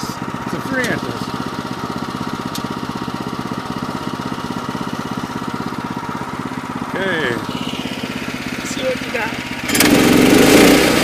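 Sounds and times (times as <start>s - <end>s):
small gas engine idling: 0.0s - 11.0s.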